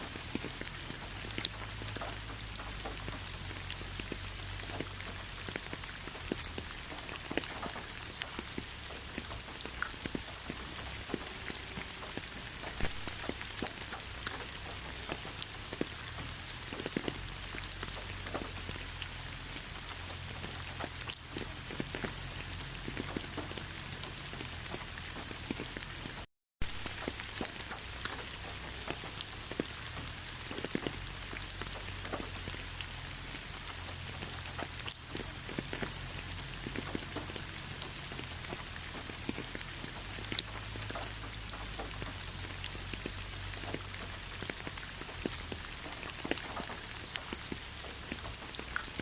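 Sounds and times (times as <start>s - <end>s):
rain drops pattering: 0.0s - 49.0s.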